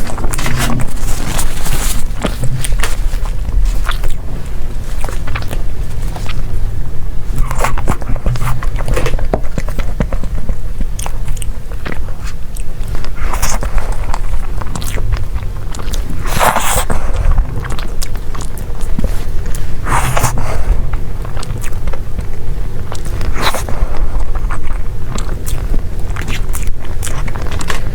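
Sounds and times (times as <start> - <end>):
person chewing with wet mouth sounds: 0.0 - 27.9
small crunches: 0.0 - 27.9
steady low rumble: 0.0 - 27.9.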